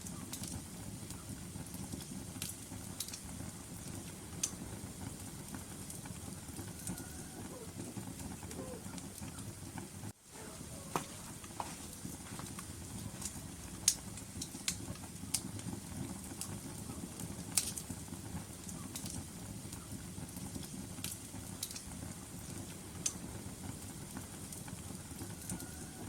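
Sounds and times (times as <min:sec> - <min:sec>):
fire crackling and popping: 0:00.0 - 0:26.0
fire rumbling: 0:00.0 - 0:26.0.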